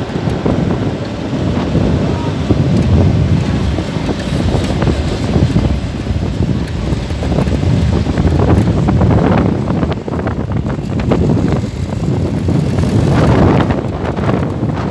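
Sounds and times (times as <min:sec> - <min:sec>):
engine and road rumble: 0:00.0 - 0:14.9
wind buffeting microphone: 0:00.0 - 0:14.9.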